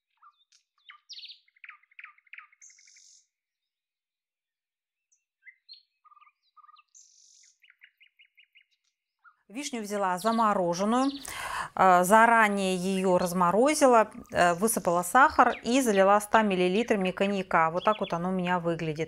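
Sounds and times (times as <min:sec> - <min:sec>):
songbirds chirping: 0:00.1 - 0:03.8, 0:05.1 - 0:19.0.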